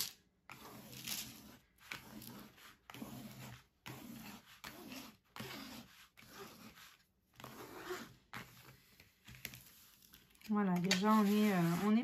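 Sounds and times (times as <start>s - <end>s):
plastic scraper rubbing plastic film: 0.5s - 12.0s.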